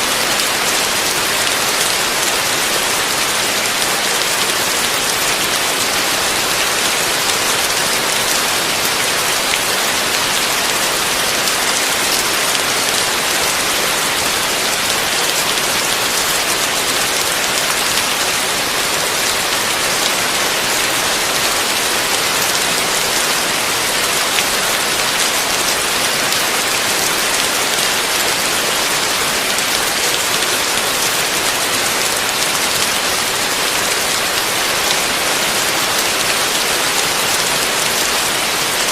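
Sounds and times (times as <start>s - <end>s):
heavy rain on a roof: 0.0s - 38.9s.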